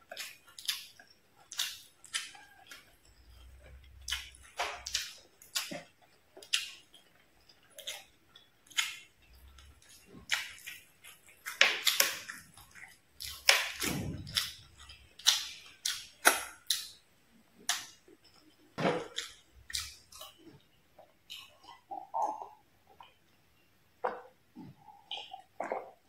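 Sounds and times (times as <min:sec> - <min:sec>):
close-miked chewing: 0:00.0 - 0:26.0.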